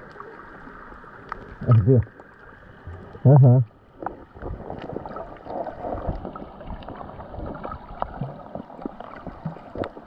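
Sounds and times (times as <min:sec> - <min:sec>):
seawater sloshing and gurgling: 0:01.5 - 0:10.0.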